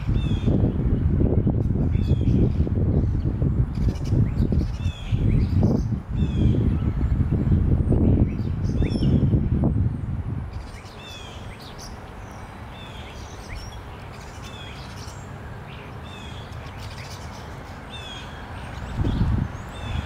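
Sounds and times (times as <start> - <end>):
wind rumble on microphone: 0.0 - 15.3, 16.0 - 20.0
birds chirping: 0.0 - 20.0.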